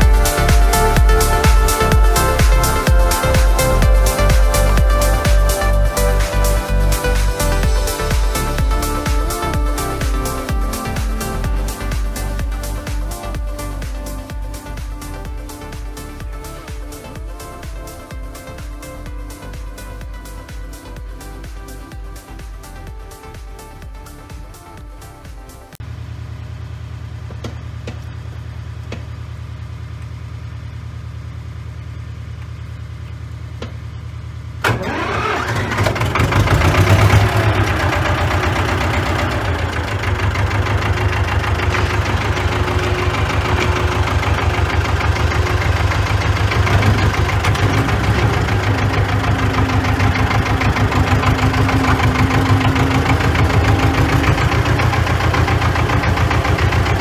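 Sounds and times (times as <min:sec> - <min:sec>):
diesel engine starting and running: 0:00.0 - 0:57.0
low hum: 0:00.0 - 0:57.0.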